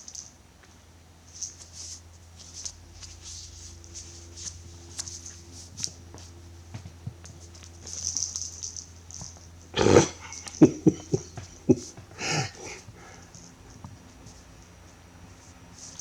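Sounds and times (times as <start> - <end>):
steady low hum: 0.0 - 16.0
toy rattling and scratching: 1.2 - 6.3, 7.2 - 16.0.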